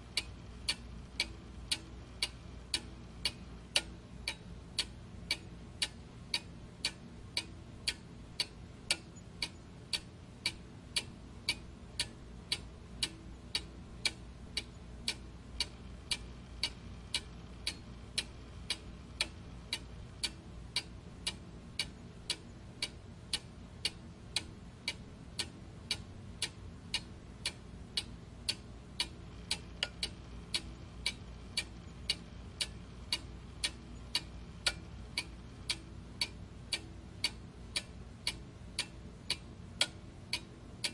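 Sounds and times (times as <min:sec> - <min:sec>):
faint low hum: 0:00.0 - 0:40.9
steady ticking: 0:00.0 - 0:40.9.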